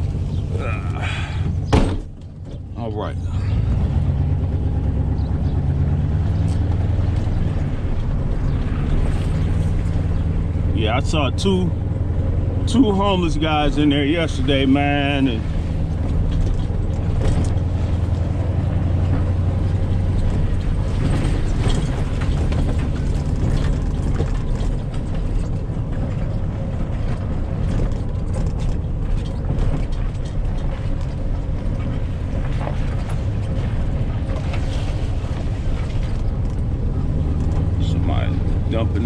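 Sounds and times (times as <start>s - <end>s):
vehicle engine humming: 0.0s - 39.0s.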